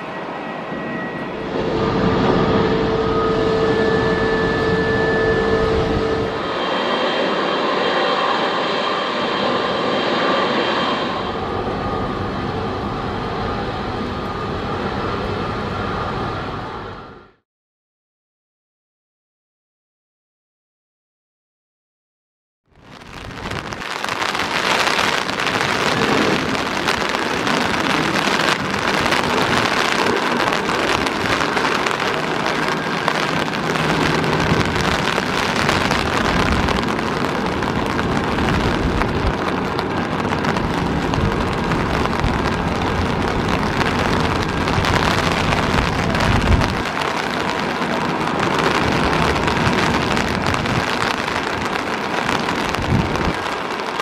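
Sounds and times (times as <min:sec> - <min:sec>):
heavy rain: 0:00.0 - 0:17.4, 0:22.7 - 0:54.0
low rumble: 0:00.0 - 0:17.4, 0:22.8 - 0:53.7.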